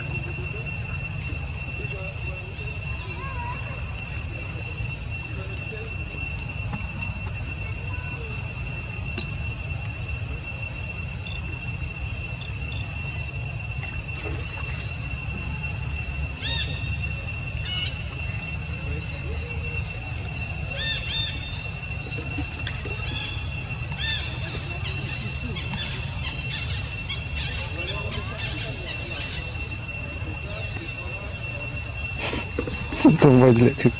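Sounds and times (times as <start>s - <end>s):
insects droning: 0.0s - 33.9s
low steady rumble: 0.0s - 33.9s.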